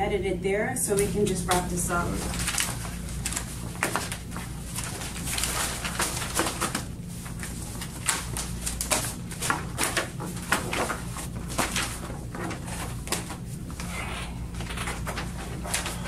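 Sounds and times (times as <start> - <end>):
low steady hum: 0.0 - 16.0
paper rustling and shuffling: 1.0 - 16.0.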